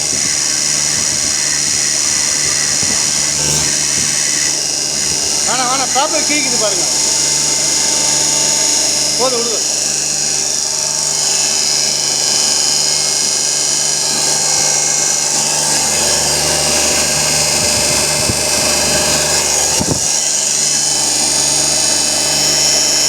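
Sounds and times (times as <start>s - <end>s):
compressor running with hiss: 0.0s - 23.0s.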